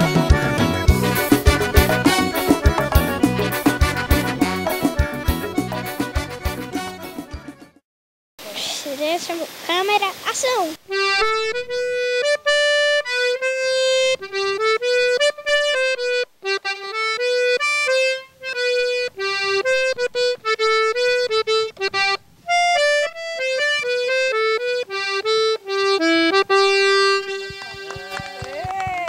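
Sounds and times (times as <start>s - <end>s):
solo accordion melody: 0.0s - 7.8s, 10.8s - 28.3s.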